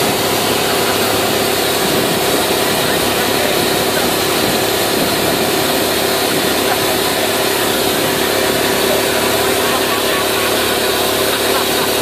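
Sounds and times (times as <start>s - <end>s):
loud engine-like noise: 0.0s - 12.0s.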